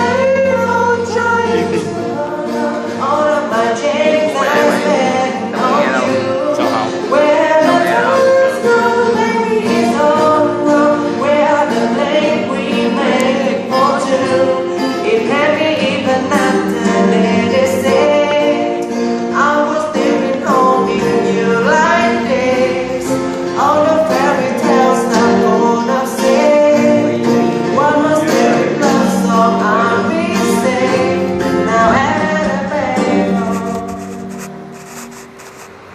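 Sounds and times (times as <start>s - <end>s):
person singing pop song: 0.0s - 34.4s
backing track music: 0.0s - 35.9s.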